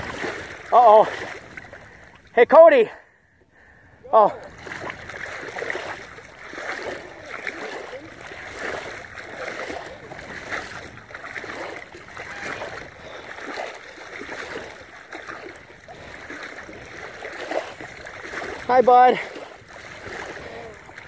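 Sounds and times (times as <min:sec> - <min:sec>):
small waves lapping: 0:00.0 - 0:21.0.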